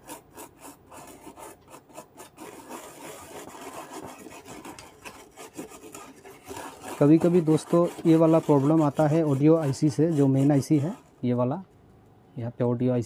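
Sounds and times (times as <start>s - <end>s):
brush scrubbing circuit board: 0.0s - 11.2s.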